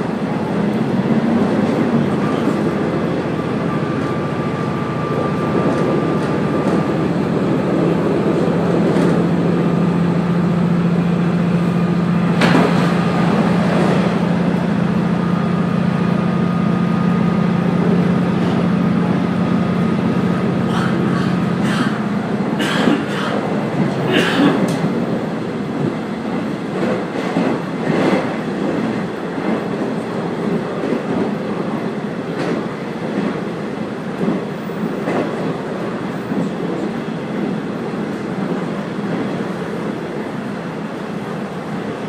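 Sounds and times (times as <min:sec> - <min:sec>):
diesel railcar engine drone: 0:00.0 - 0:42.0.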